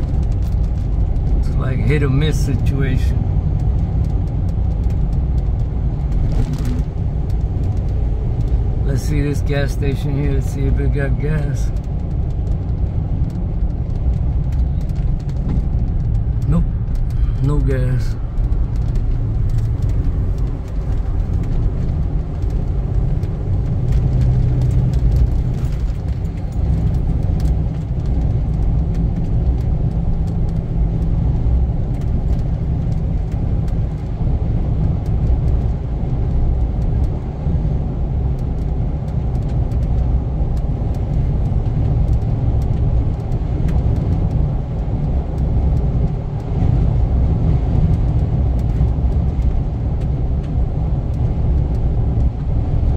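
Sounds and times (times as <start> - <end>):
car engine and road noise rumble: 0.0 - 52.9.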